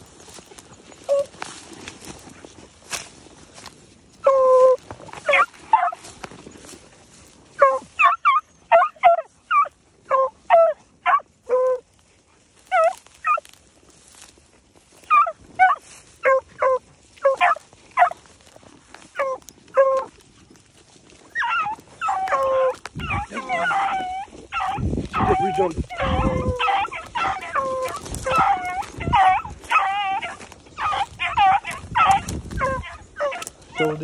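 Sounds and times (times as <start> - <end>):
dogs yelping barks: 0.0 - 2.2, 4.2 - 6.1, 7.5 - 11.9, 12.6 - 13.6, 15.0 - 34.0.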